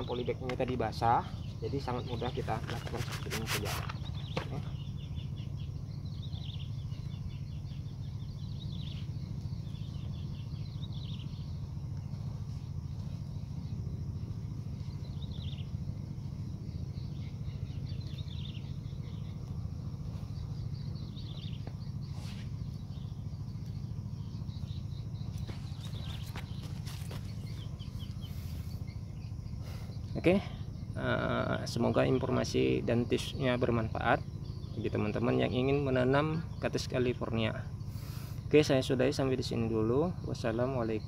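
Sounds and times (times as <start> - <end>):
steady low rumble: 0.0 - 41.0.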